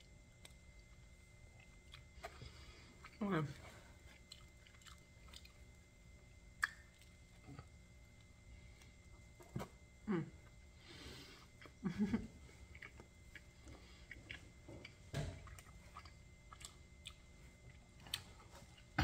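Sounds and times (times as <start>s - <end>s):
chewing crispy pizza: 0.0s - 19.0s.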